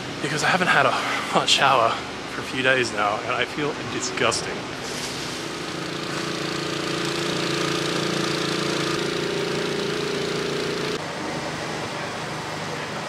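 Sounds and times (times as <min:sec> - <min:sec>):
small pump engine running: 0:00.0 - 0:13.0.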